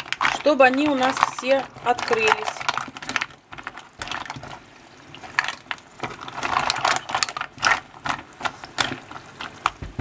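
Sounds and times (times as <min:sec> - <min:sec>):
mussel shells clattering in saucepan: 0:00.0 - 0:10.0.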